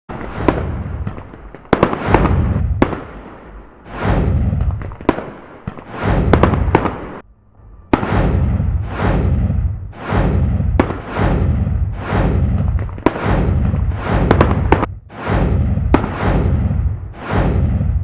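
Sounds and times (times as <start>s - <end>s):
fireworks cracking and booming: 0.1s - 7.2s, 7.9s - 18.0s.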